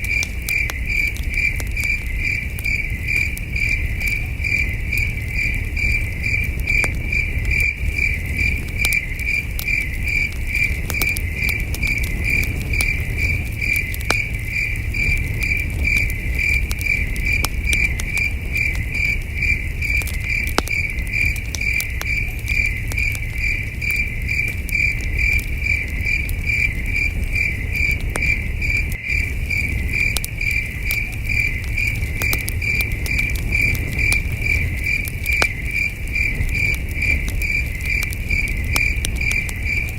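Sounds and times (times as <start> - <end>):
campfire crackling: 0.0 - 39.9
crickets chirping: 0.0 - 39.9.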